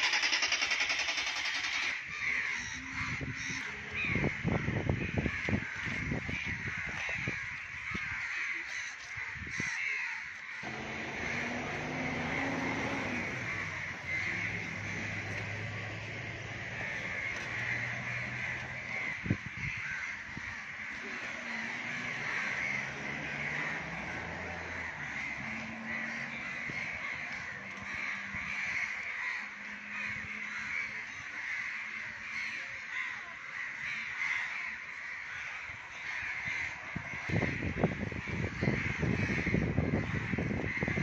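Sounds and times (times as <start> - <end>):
birds calling: 0.0 - 41.0.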